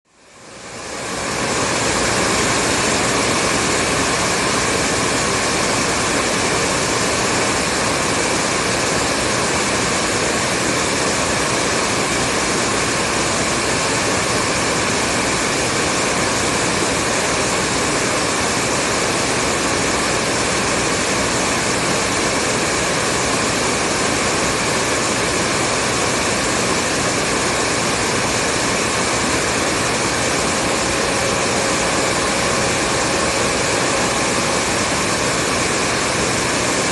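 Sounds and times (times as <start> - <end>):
fan motor whine: 0.1 - 36.9
hair dryer blowing: 0.1 - 36.9.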